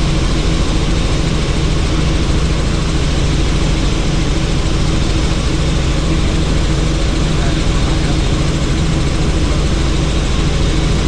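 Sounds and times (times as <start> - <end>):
helicopter rotor and engine drone: 0.0 - 11.0.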